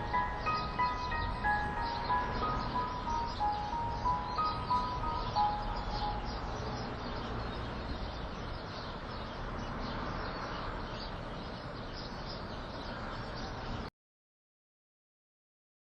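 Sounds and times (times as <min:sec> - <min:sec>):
small birds chirping: 0:00.0 - 0:13.9
steady background noise: 0:00.0 - 0:13.9.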